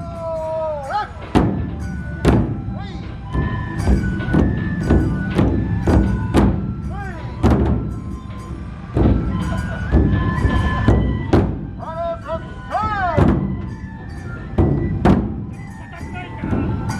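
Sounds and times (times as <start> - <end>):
festival drums beaten: 0.0 - 16.9
flute melody: 0.0 - 16.9.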